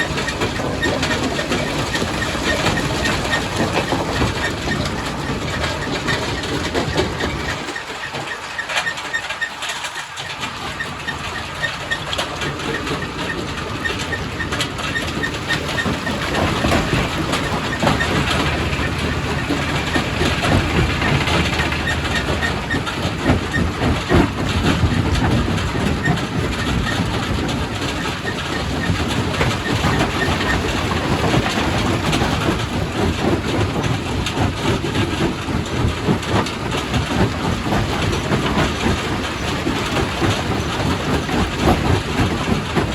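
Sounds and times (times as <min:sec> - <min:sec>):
rock crusher rumbling: 0:00.0 - 0:42.9.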